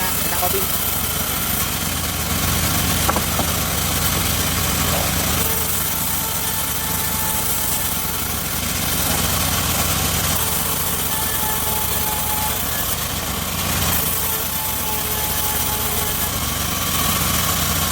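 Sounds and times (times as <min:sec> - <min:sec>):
saw rig engine running: 0:00.0 - 0:17.9.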